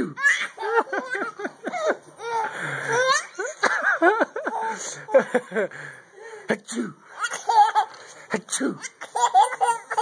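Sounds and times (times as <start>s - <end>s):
baby laughing: 0.0s - 5.7s, 7.1s - 10.0s.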